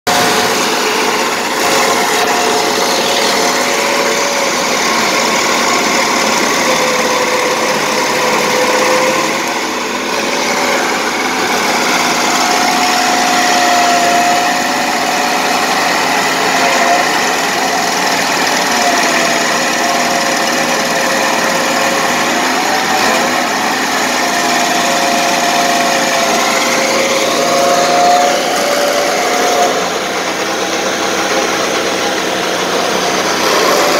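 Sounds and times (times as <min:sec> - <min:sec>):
stump grinder grinding wood: 0:00.1 - 0:33.9.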